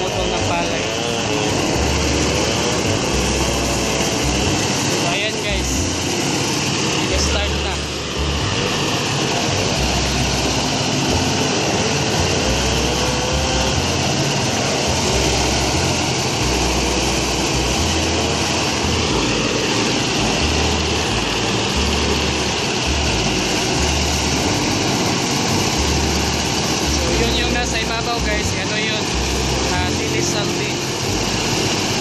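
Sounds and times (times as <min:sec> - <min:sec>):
threshing machine running: 0:00.0 - 0:32.0.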